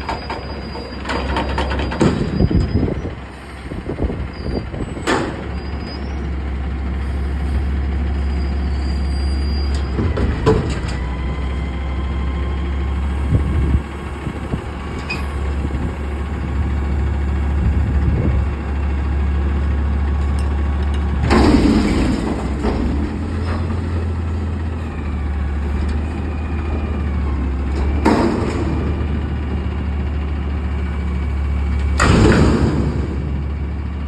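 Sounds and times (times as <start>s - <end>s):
garbage truck engine running: 0.0s - 34.0s.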